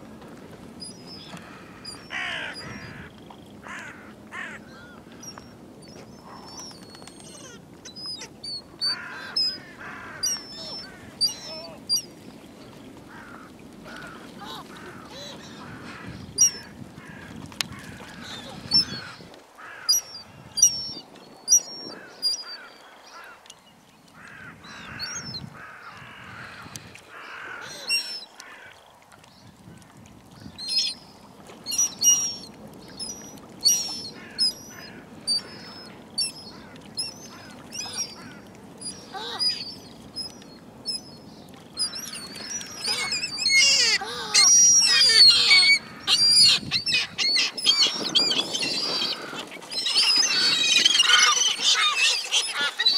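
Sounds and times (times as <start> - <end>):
gulls and birds calling: 0.8 - 23.4, 24.2 - 28.7, 30.6 - 31.0, 31.6 - 52.9.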